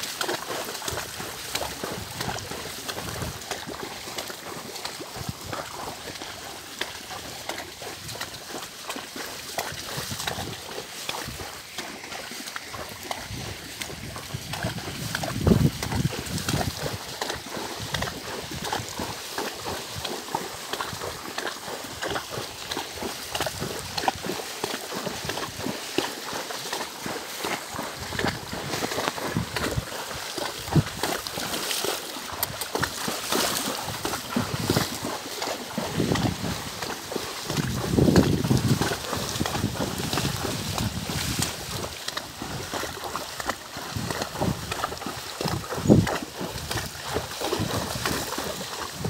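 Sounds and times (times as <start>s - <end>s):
hooves splashing through mud: 0.0s - 49.0s.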